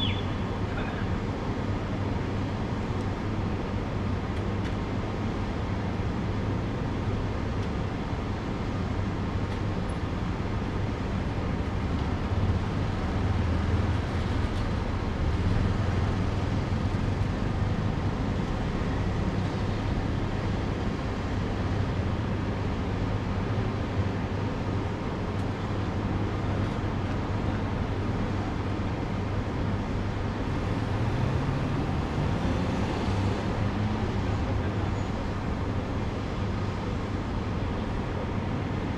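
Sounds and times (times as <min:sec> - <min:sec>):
street traffic: 0:00.0 - 0:38.9.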